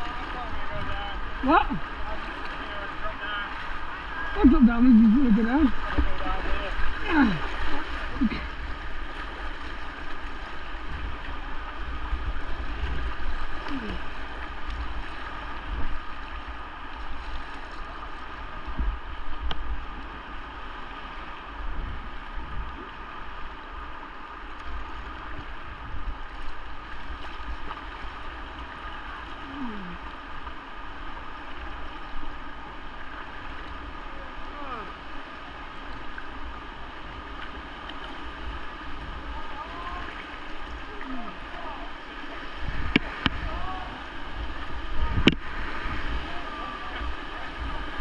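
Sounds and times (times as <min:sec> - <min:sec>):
wind rumble on microphone: 0:00.0 - 0:02.9, 0:03.5 - 0:48.0
river water rushing: 0:00.0 - 0:48.0.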